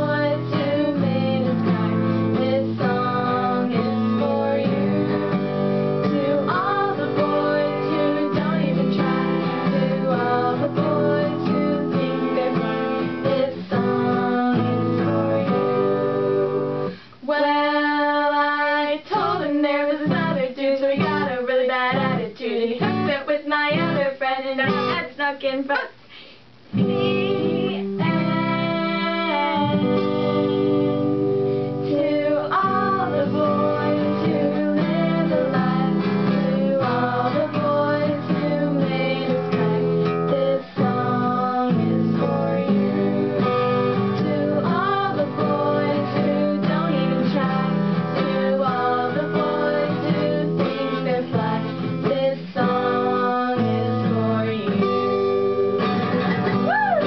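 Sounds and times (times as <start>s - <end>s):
guitar-led music: 0.0s - 17.2s, 18.9s - 25.2s, 26.5s - 57.0s.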